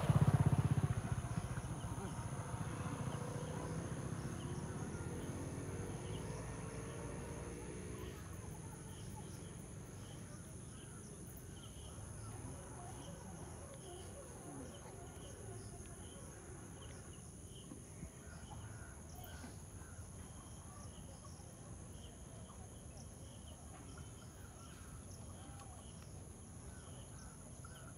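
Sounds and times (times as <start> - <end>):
insects droning: 0.0 - 27.9.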